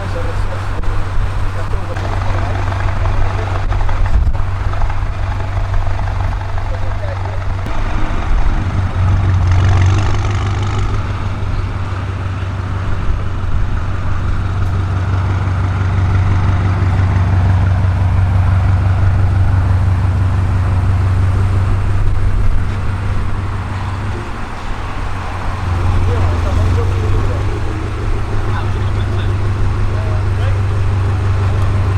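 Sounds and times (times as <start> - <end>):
car engine running steadily: 0.0 - 31.9.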